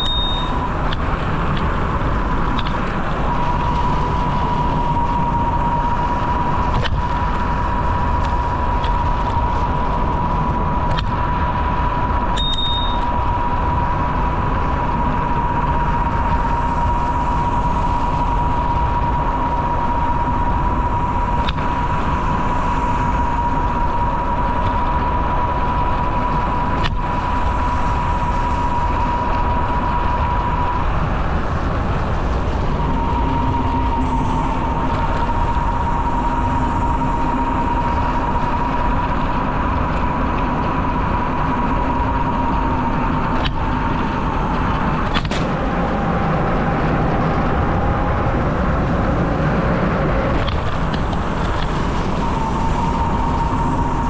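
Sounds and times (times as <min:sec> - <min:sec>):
high-pitched whine: 0:00.0 - 0:54.0
wind rushing over microphone: 0:00.0 - 0:54.0.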